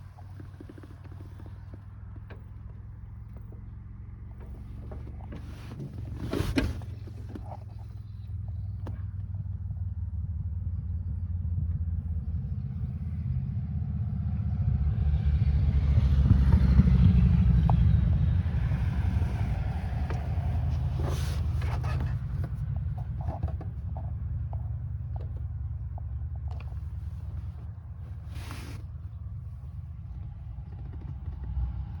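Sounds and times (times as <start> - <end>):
tractor diesel engine rumbling: 0.0 - 14.4, 15.0 - 32.0.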